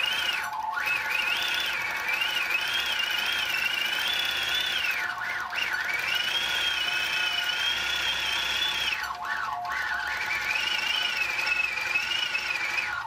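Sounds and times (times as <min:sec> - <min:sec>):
quilting machine motor whine: 0:00.0 - 0:13.0.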